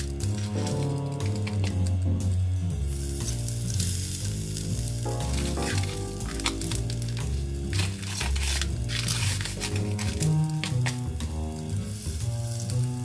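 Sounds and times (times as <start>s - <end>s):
background music with bass line: 0.0s - 13.0s
seafood sizzling on charcoal grill: 0.0s - 13.0s.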